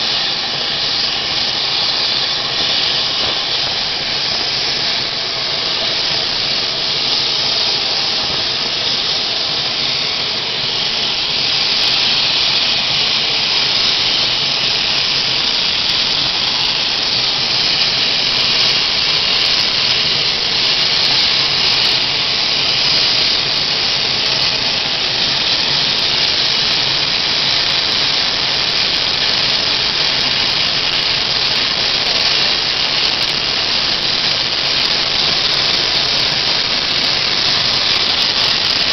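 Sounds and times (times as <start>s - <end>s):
turboprop engines running: 0.0s - 38.9s.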